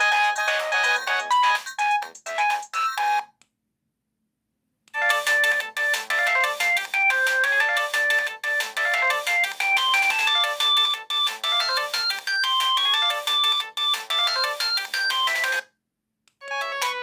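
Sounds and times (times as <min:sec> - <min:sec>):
polyphonic phone ringtone: 0:00.0 - 0:03.3, 0:05.0 - 0:15.6, 0:16.4 - 0:17.0.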